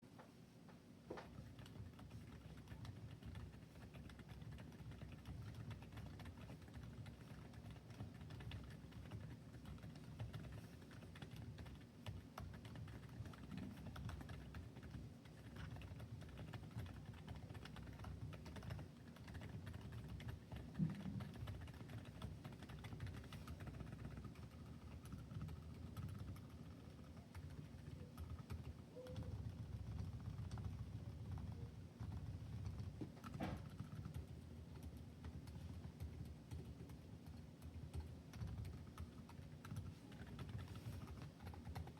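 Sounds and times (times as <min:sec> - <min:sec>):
soft keyboard typing: 0:01.2 - 0:41.9.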